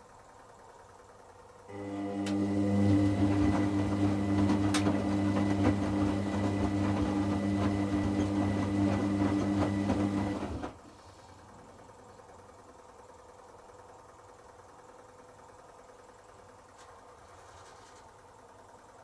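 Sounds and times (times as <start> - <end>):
washing machine drain pump humming: 0.0 - 19.0.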